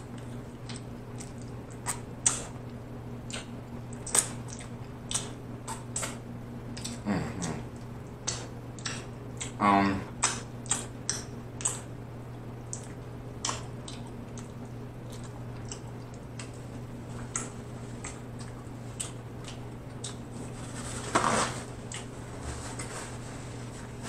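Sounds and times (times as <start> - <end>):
person chewing and lip-smacking: 0.0 - 20.4, 21.8 - 22.2
steady low hum: 0.0 - 24.0.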